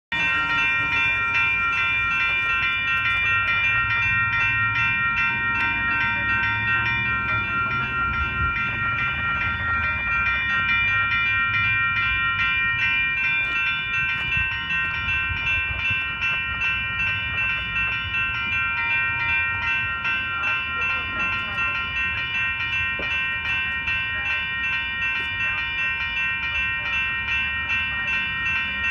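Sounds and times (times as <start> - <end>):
railroad crossing bells ringing: 0.1 - 28.9.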